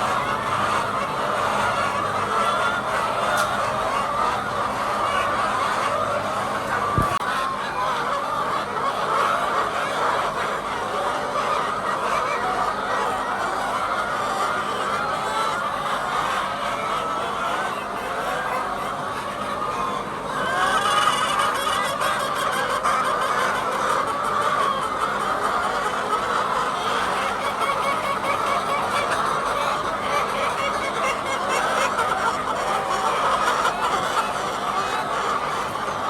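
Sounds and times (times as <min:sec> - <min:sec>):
hens clucking: 0:00.0 - 0:36.0.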